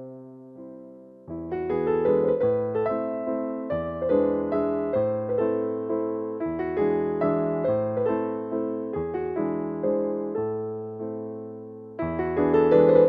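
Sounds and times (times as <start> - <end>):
gentle solo piano melody: 0.0 - 13.0.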